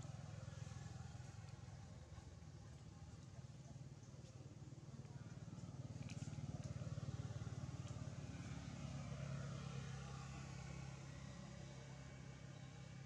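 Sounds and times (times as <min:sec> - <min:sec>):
vehicle engine passing by: 0:00.0 - 0:03.3, 0:04.6 - 0:13.0.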